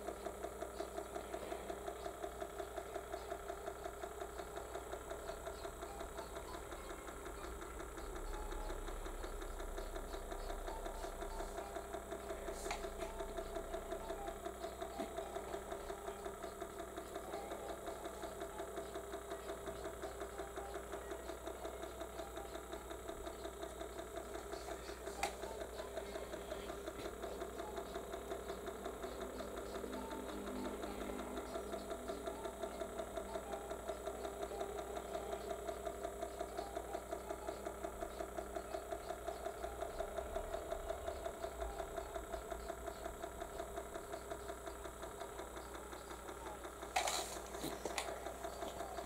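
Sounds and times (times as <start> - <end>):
small electric motor pulsing: 0.0 - 49.0.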